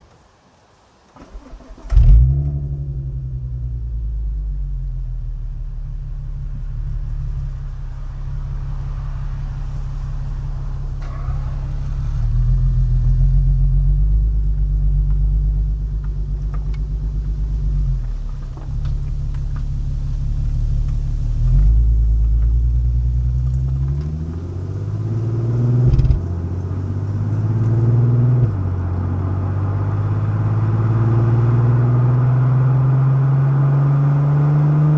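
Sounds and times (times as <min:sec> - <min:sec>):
car engine starting: 0:01.0 - 0:34.9
deep engine exhaust note revving: 0:01.9 - 0:34.9.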